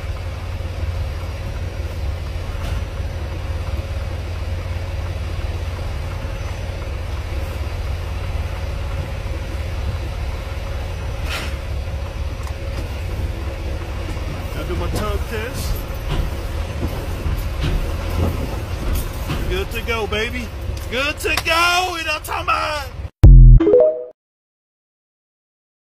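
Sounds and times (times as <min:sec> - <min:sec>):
truck diesel engine running: 0:00.0 - 0:21.7.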